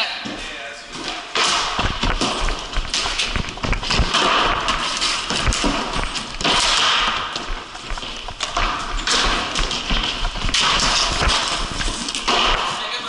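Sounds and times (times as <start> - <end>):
shoes scuffing: 0.2 - 12.8
hockey sticks clacking on concrete: 0.2 - 13.0
ball hits: 1.3 - 12.8.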